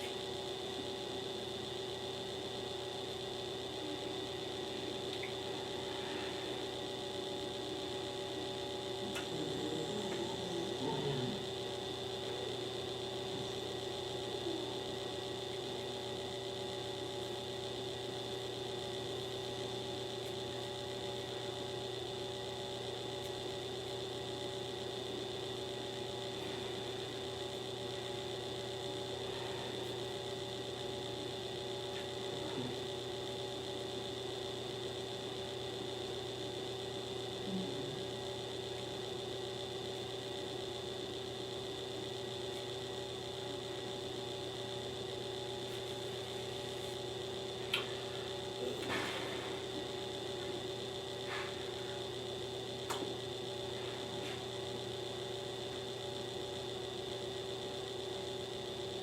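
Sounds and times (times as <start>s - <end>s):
machine hum and whir: 0.0s - 59.0s.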